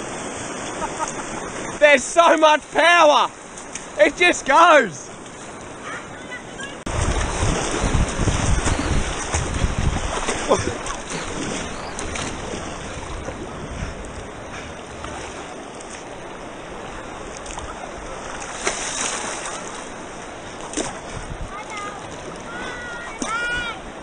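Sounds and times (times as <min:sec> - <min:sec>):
river water rushing and splashing: 0:00.0 - 0:24.0.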